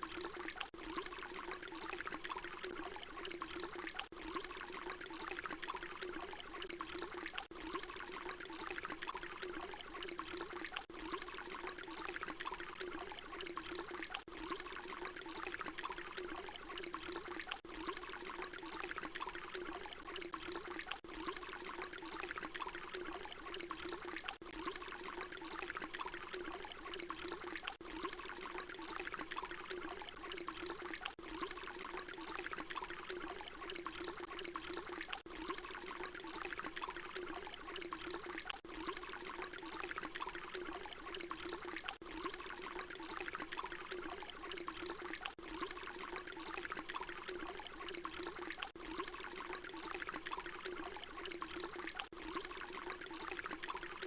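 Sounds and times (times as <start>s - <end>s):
water pouring and gurgling: 0.0s - 54.0s.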